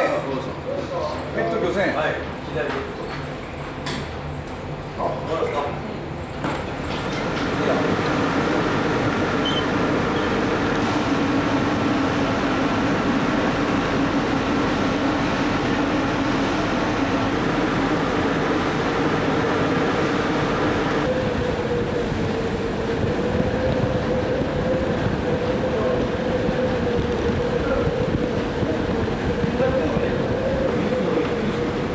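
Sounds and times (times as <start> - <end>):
ship engines droning: 0.0 - 31.9.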